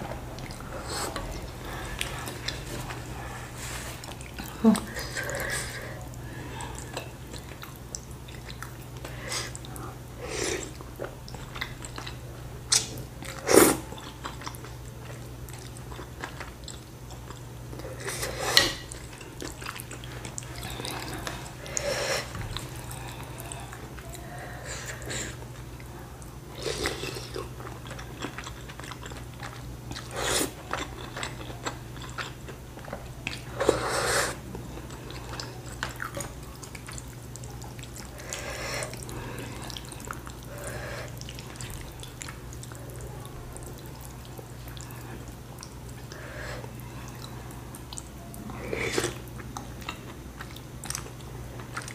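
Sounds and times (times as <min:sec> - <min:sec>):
person chewing noodles: 0:00.0 - 0:51.9
steady low hum: 0:00.0 - 0:51.9.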